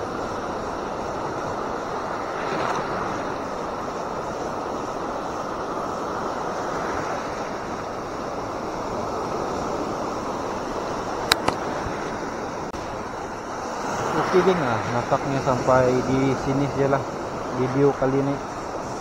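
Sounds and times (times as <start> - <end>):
surf breaking on beach: 0.0 - 19.0
wind on microphone: 0.0 - 19.0.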